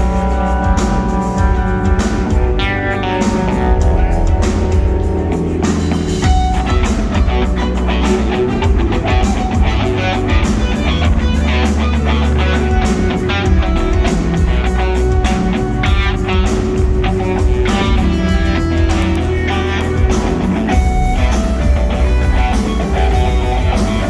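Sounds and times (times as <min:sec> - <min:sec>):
bass: 0:00.0 - 0:24.0
drum kit beat: 0:00.0 - 0:24.0
electric guitar: 0:00.0 - 0:24.0.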